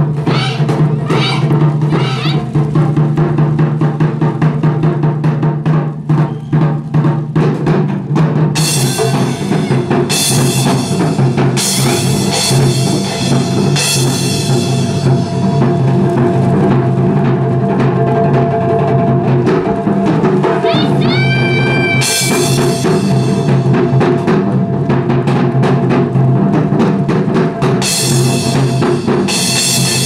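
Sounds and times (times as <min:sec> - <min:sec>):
fast drumming on large drums: 0:00.0 - 0:30.0.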